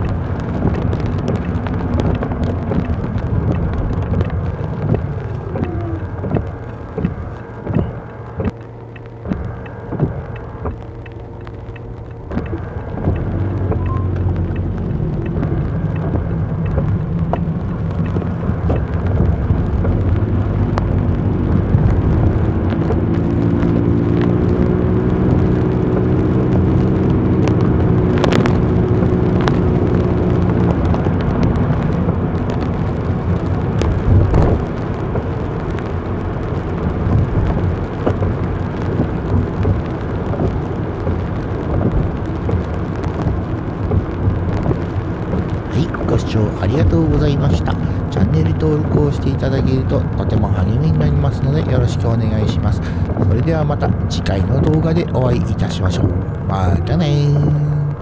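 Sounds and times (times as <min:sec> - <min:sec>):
engine and road rumble: 0:00.0 - 0:58.0
humming engine note: 0:00.0 - 0:58.0.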